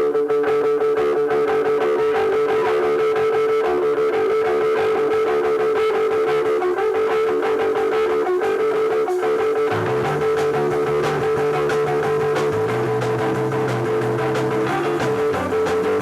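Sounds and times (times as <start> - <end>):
bass guitar: 0.0 - 16.0
electric guitar playing: 0.0 - 16.0.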